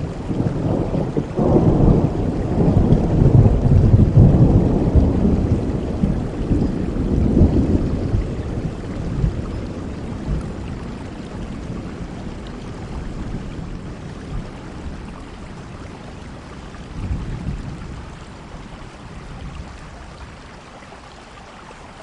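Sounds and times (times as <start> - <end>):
rolling thunder: 0.0 - 18.2
steady rain: 0.0 - 22.0.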